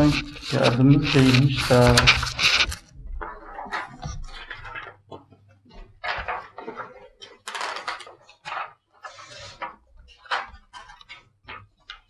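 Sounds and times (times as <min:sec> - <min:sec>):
plastic-coated cards rustling: 0:00.0 - 0:05.0, 0:06.0 - 0:12.0.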